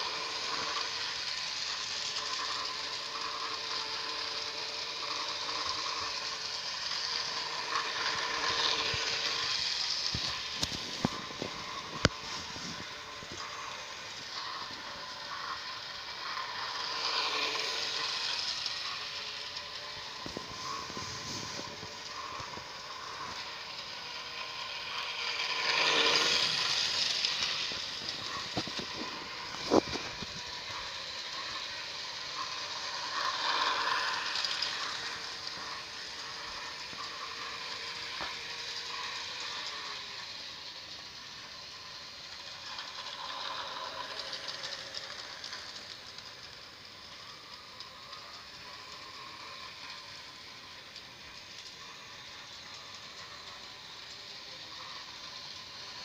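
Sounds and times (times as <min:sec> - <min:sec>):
model train motor whirring: 0:00.0 - 0:56.0.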